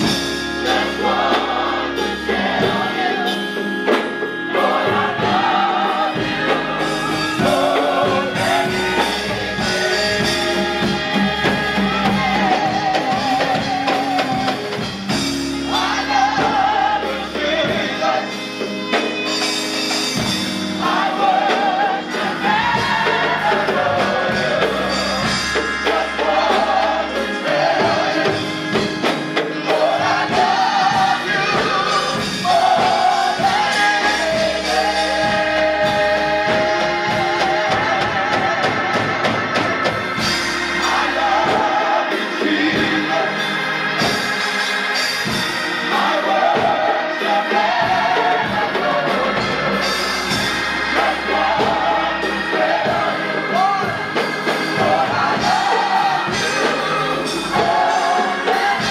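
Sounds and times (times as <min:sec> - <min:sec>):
gospel choir singing: 0:00.0 - 0:58.9
live band accompaniment: 0:00.0 - 0:58.9.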